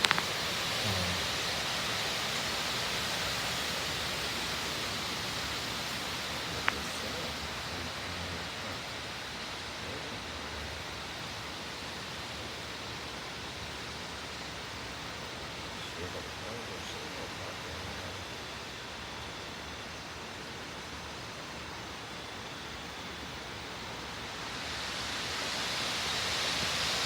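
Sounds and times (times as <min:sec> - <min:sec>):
wind rushing through trees: 0:00.0 - 0:27.0.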